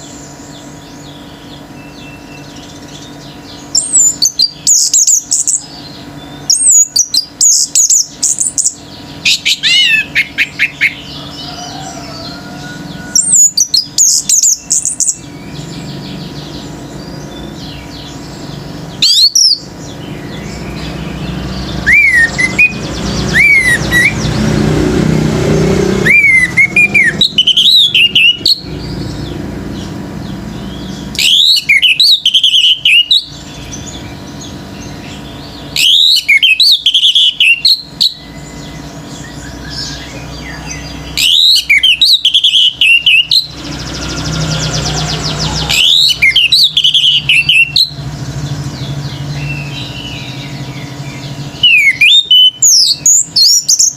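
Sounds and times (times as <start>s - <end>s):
thrush singing: 0.6s - 53.9s.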